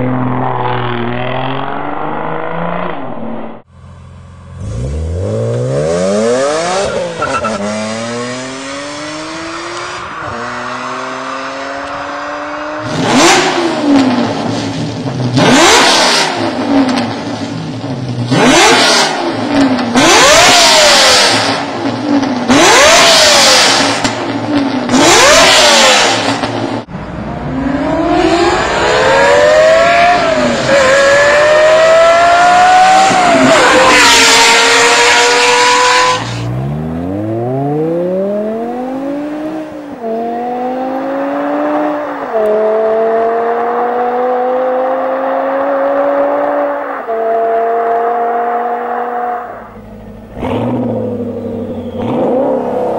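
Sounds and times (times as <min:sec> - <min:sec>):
car engine accelerating hard: 0:00.0 - 0:52.9.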